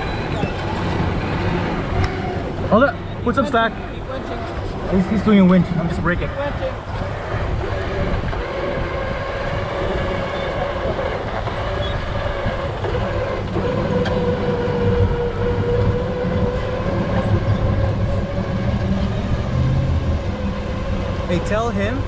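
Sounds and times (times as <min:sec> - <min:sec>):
winch whining: 0:00.0 - 0:22.0.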